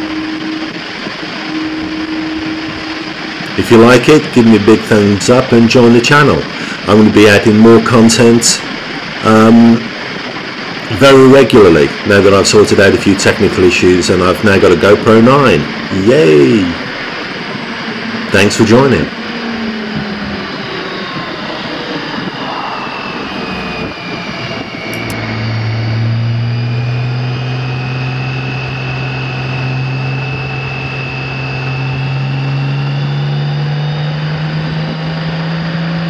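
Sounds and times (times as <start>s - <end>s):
motorcycle engine revving: 0.0s - 10.9s, 15.3s - 36.0s
wind rushing over microphone: 0.0s - 35.8s.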